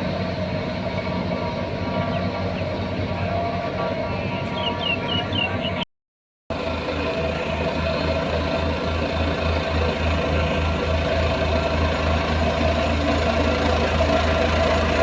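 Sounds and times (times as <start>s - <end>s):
heavy diesel engine running: 0.0s - 5.8s, 6.5s - 15.0s.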